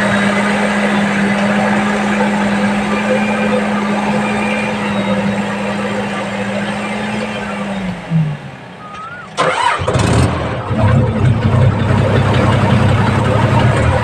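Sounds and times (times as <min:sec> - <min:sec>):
diesel engine cranking and running: 0:00.0 - 0:14.0.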